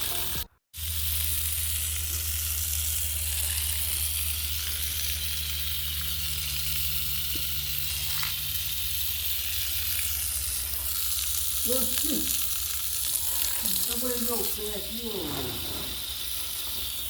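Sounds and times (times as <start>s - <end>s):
water spraying: 0.0s - 17.0s.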